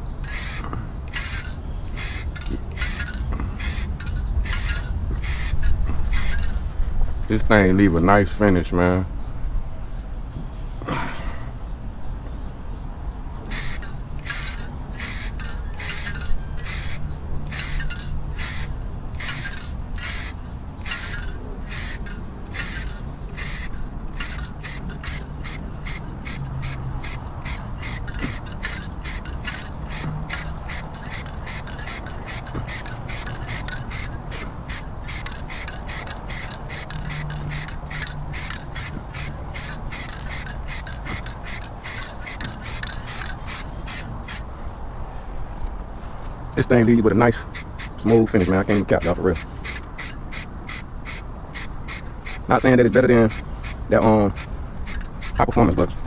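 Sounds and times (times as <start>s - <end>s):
spray paint can hissing bursts: 0.2s - 6.7s, 13.5s - 44.4s, 47.4s - 55.5s.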